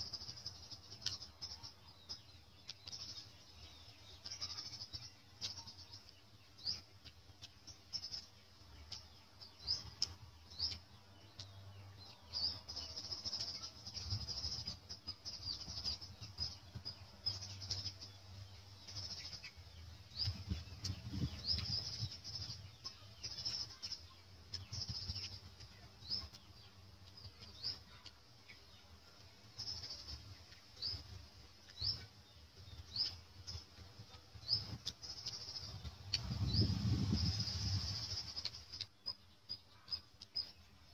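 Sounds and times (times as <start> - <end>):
small birds chirping: 0.0 - 40.9
soft chewing sounds: 0.0 - 40.9.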